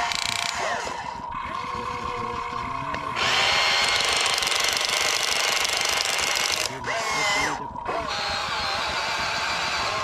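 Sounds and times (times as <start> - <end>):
loud rapid mechanical rattle: 0.0 - 10.0.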